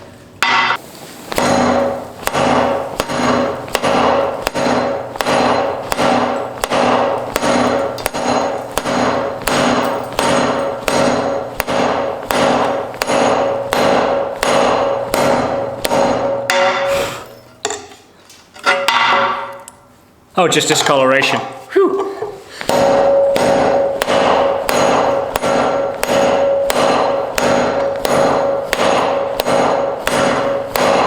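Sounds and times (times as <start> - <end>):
anvil ringing: 0.4 - 0.8, 1.4 - 17.9, 18.7 - 19.7, 22.7 - 31.0
hammer striking metal on anvil: 0.4 - 19.7, 22.6 - 31.0.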